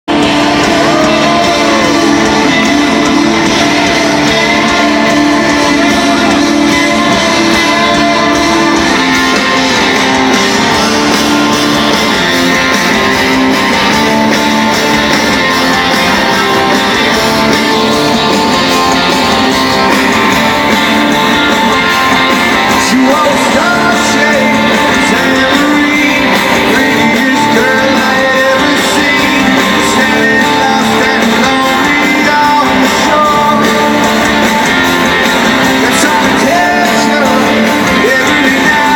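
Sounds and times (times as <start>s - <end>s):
person singing: 0.1s - 38.9s
rock band playing live: 0.1s - 38.9s
strummed electric guitars: 0.1s - 38.9s.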